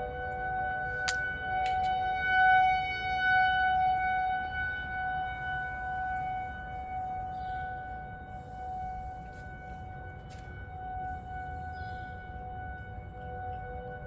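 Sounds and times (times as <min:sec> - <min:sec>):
warning siren steady tones: 0:00.0 - 0:14.0.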